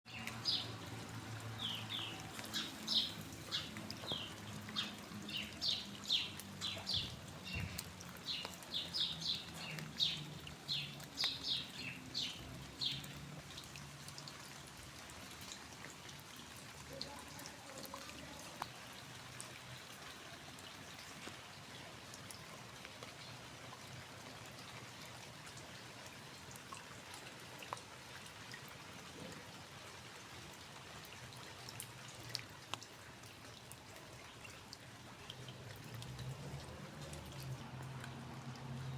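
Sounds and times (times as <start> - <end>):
water drips: 0.0 - 38.9
steady rain falling: 0.1 - 38.9.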